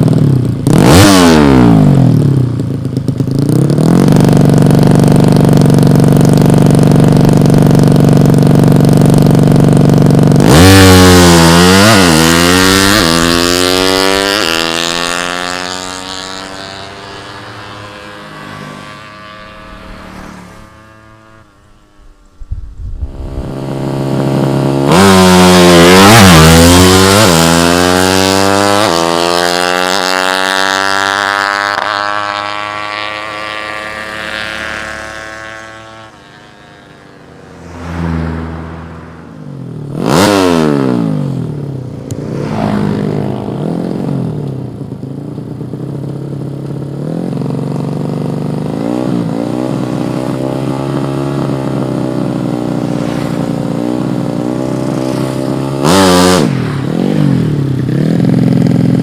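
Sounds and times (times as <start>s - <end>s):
racing motorcycle passing: 0.0s - 59.0s.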